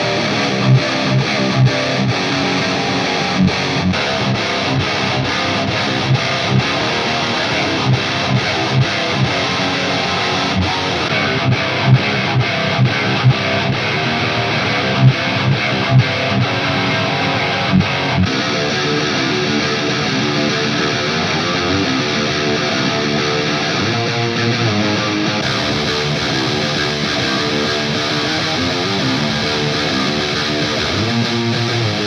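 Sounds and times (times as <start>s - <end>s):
distorted electric guitar riff: 0.0s - 32.0s.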